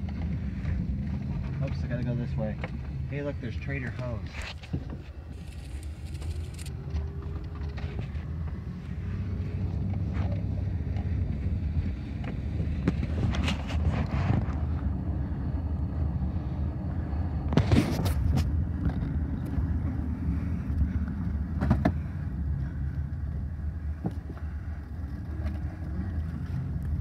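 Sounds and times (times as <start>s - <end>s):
car cabin rumble: 0.0s - 27.0s.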